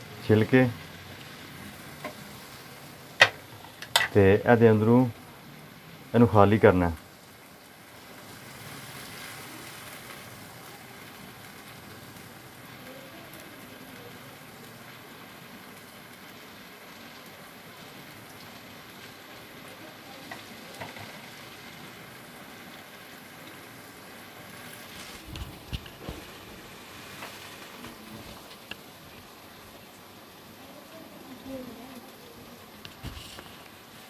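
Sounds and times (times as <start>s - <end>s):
faint hiss: 0.0s - 34.0s.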